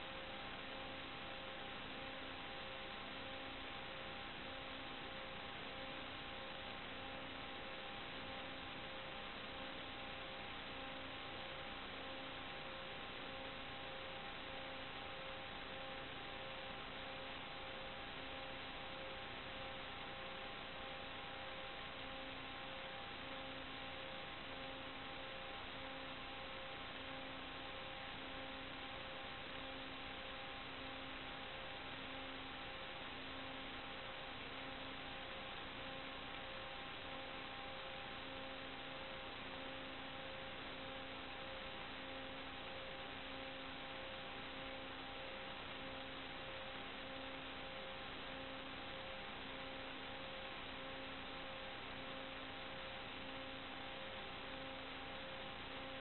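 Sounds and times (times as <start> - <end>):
faint hum of fixed tones: 0.0 - 56.0.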